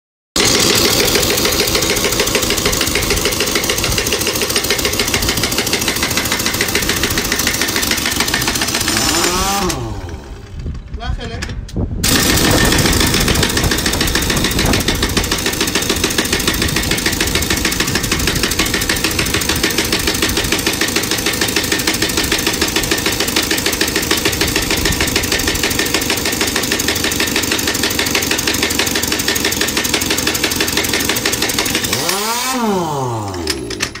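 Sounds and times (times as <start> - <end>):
pneumatic impact wrench hammering: 0.4 - 10.8, 12.0 - 34.0.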